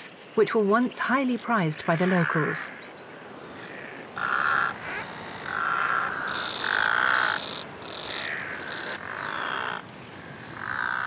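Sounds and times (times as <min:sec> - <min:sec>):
seabirds calling: 0:00.0 - 0:11.0.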